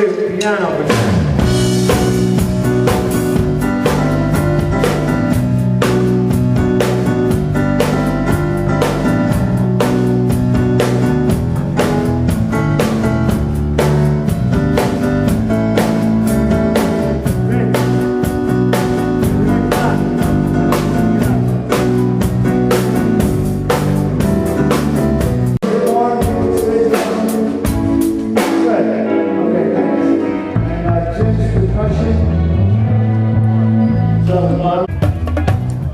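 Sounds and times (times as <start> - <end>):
rock band playing: 0.0 - 35.9.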